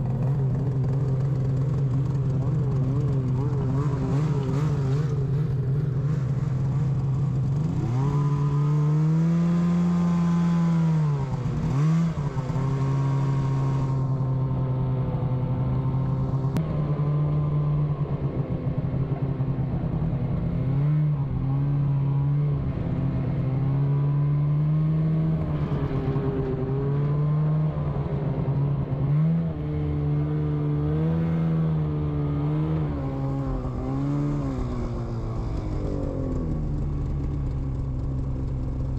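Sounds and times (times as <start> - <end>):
snowmobile engine revving: 0.0 - 28.4, 29.0 - 38.9.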